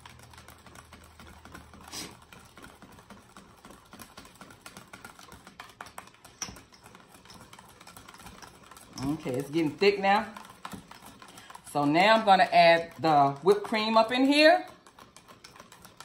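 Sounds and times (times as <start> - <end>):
wire whisk scraping metal bowl: 0.0 - 16.0.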